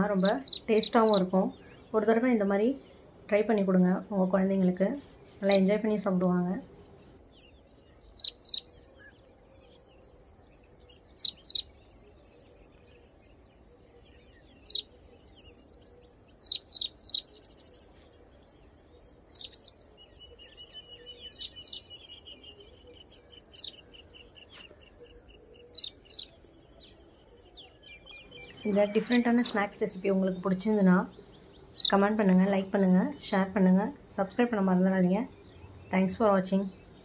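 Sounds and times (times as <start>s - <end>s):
thin bird trill: 0.0s - 9.9s, 10.8s - 37.0s
small birds chirping: 0.0s - 37.0s.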